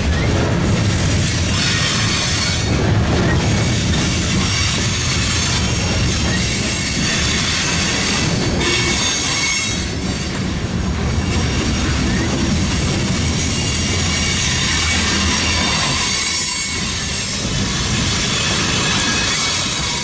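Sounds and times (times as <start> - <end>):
freight cars rumbling on rails: 0.0 - 20.0.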